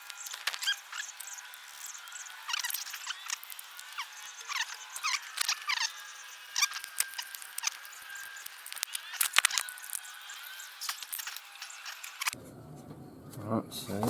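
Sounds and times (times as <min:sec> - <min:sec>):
sharp clicks: 0:00.0 - 0:12.4
small birds chirping: 0:00.0 - 0:12.4.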